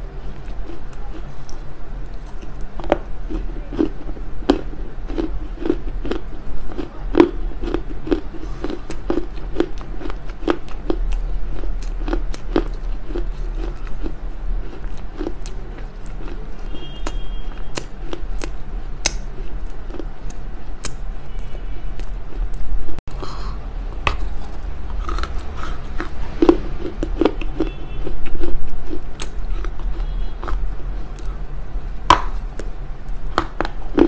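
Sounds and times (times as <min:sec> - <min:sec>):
crunchy chewing: 0:00.0 - 0:34.0.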